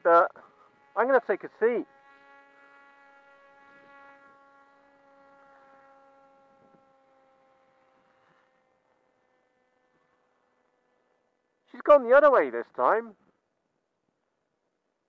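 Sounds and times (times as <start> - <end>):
model plane motor drone: 0.0 - 15.0.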